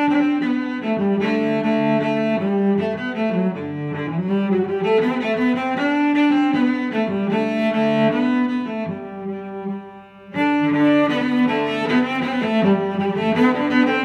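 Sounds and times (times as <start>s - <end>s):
slow bowed string music: 0.0s - 14.0s.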